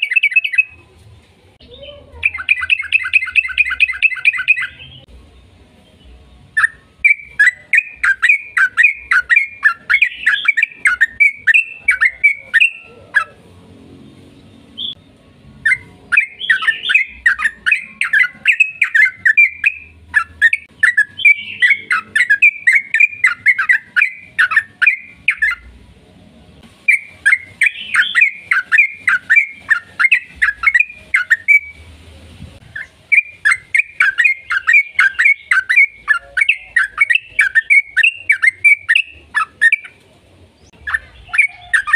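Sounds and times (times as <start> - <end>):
bird singing rapid chattering notes: 0.0 - 0.8, 1.7 - 5.1, 5.9 - 13.4, 15.6 - 25.7, 26.8 - 31.8, 32.6 - 40.0, 40.6 - 41.9.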